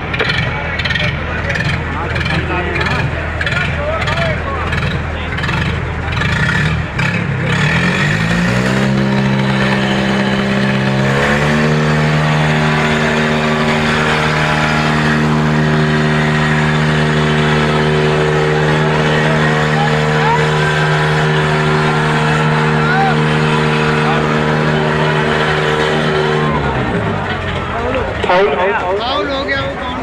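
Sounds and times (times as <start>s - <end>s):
tractor diesel engine revving: 0.0s - 30.0s.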